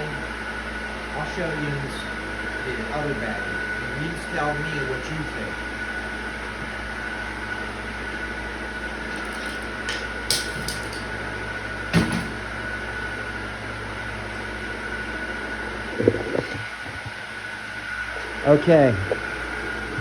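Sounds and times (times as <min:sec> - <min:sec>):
background hum with high whine: 0:00.0 - 0:20.0.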